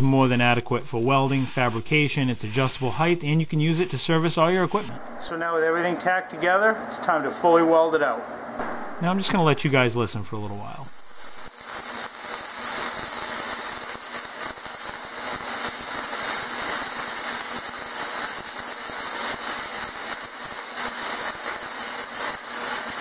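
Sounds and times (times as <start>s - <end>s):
welding arc crackling: 0.0s - 5.4s, 8.6s - 23.0s.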